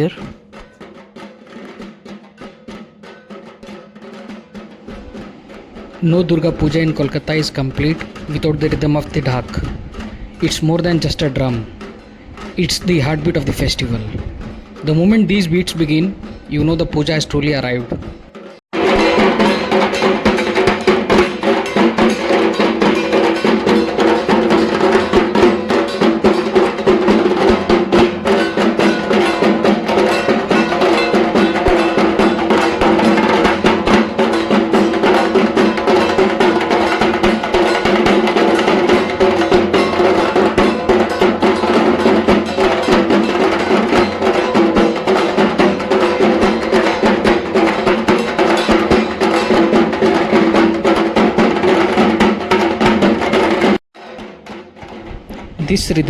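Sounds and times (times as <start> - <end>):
large drum beaten with sticks: 0.0 - 56.0.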